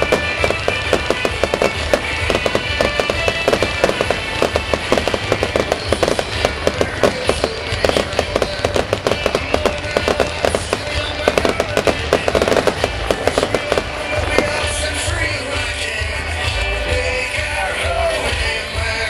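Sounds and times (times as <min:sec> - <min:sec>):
fireworks bursting and crackling: 0:00.0 - 0:16.6.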